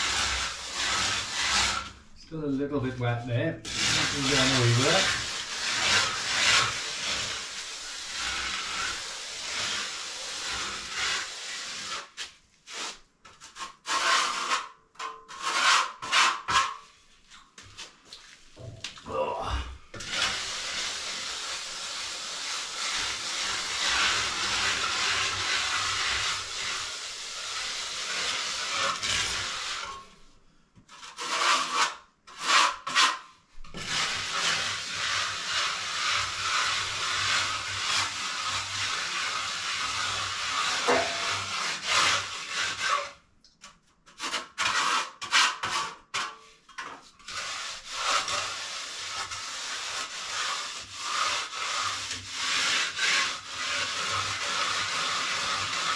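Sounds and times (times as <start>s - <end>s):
hand float scraping cement render: 0.0s - 2.0s, 2.8s - 30.2s, 30.9s - 55.9s.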